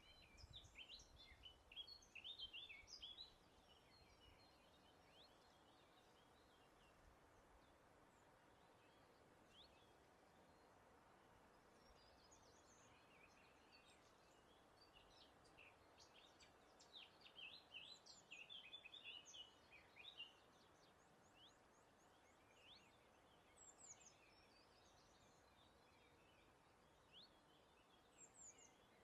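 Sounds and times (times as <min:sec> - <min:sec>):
faint background hiss: 0:00.0 - 0:29.0
songbirds chirping and twittering: 0:00.0 - 0:29.0.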